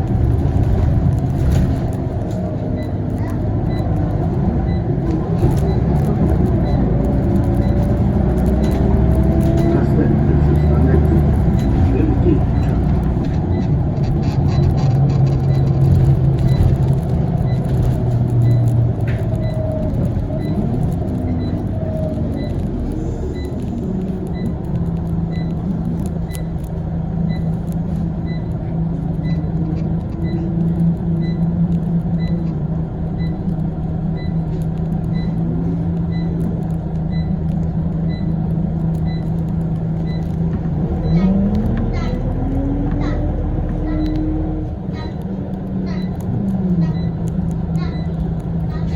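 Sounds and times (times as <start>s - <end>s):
bus engine hum: 0.0s - 48.9s
light regular tick: 0.1s - 48.9s.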